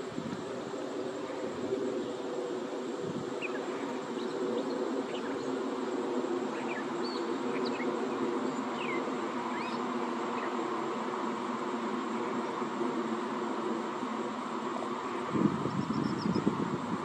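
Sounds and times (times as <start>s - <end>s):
low buzzing drone: 0.0s - 17.0s.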